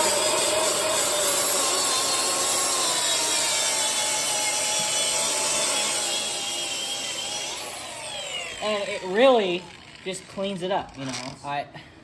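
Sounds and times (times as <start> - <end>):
power tool scrubbing metal: 0.0 - 11.6.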